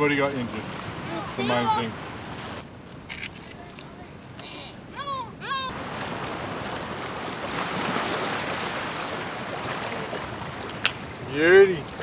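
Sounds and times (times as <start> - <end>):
sea waves washing in: 0.0 - 3.1, 4.0 - 12.0.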